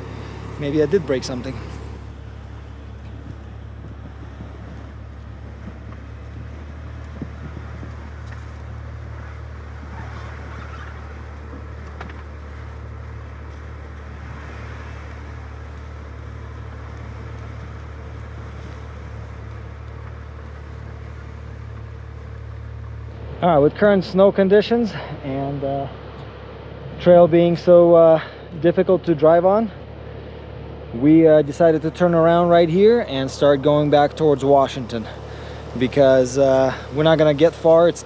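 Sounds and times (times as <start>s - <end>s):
engine running with low drone: 0.0s - 38.0s.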